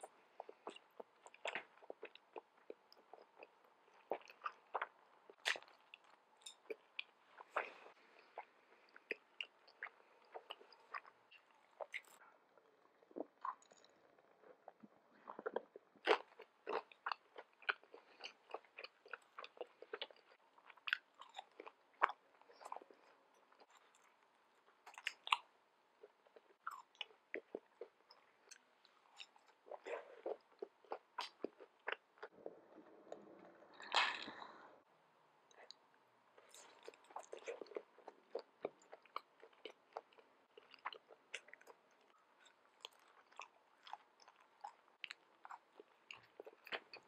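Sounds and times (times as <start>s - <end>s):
chewing with mouth clicks: 0.0s - 34.6s, 36.4s - 47.0s.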